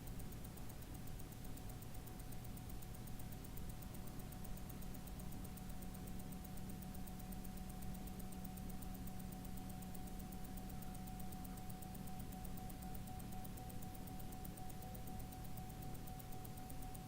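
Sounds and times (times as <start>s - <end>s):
faint steady hum: 0.0s - 17.0s
watch ticking fast: 0.0s - 17.0s.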